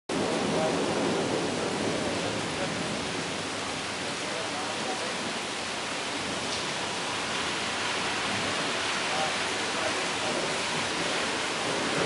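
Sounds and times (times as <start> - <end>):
rain falling: 0.1 - 12.0.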